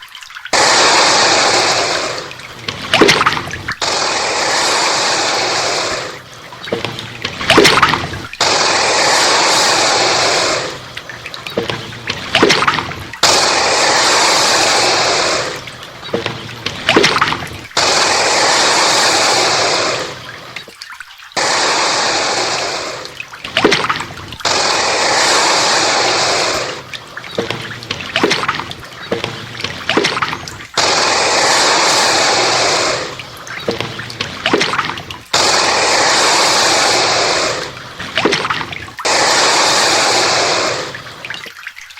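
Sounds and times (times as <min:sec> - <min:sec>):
alligator hissing: 0:00.5 - 0:06.2, 0:07.3 - 0:11.0, 0:11.8 - 0:20.7, 0:21.4 - 0:41.3.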